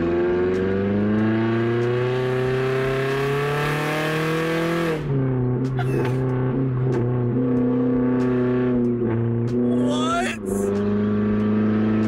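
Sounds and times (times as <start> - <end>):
loud car exhaust accelerating: 0.0 - 12.0.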